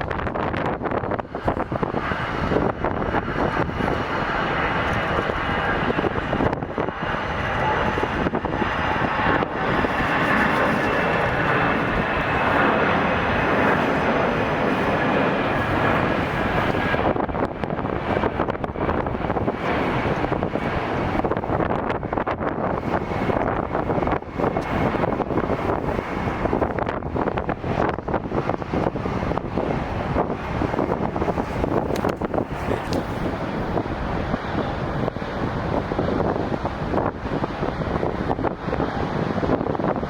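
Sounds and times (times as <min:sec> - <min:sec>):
jet engines roaring: 0:00.0 - 0:40.0
wind buffeting microphone: 0:00.0 - 0:40.0.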